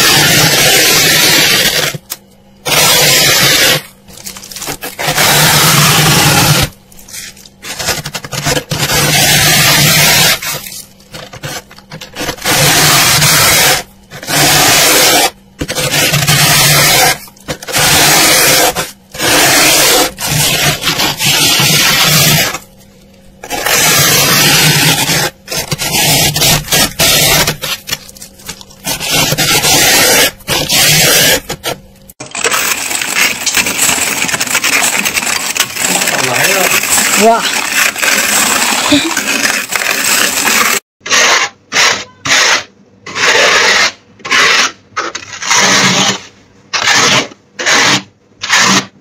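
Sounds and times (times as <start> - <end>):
fingers scraping frost: 0.0 - 2.0, 2.7 - 22.6, 23.4 - 31.8, 32.4 - 49.0
fork scraping frost: 0.0 - 2.0, 2.6 - 49.0.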